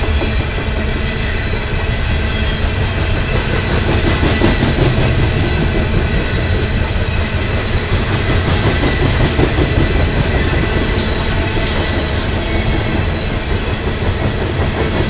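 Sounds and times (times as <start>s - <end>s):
train wheels rumbling on rail: 0.0s - 15.0s
wheel squeal: 1.0s - 15.0s.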